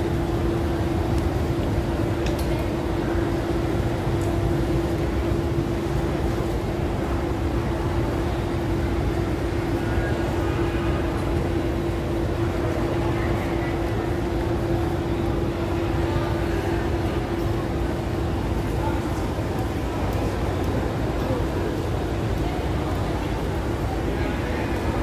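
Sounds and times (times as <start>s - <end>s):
constant hum: 0.0s - 25.0s
faint crowd voices: 0.0s - 25.0s.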